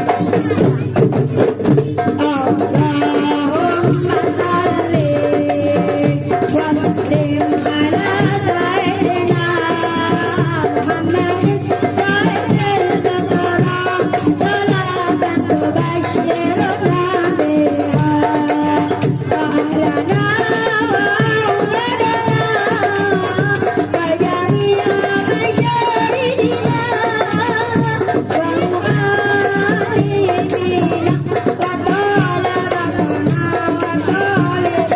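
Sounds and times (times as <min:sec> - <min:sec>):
group singing: 0:00.0 - 0:34.9
hand drums beating: 0:00.0 - 0:34.9.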